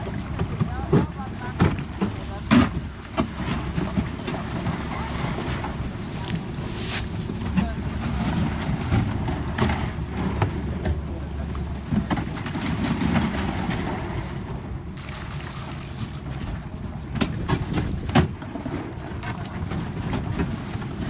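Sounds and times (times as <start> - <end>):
boat engine running: 0.0 - 21.0
water rushing past hull: 0.0 - 21.0
wind buffeting microphone: 0.0 - 21.0.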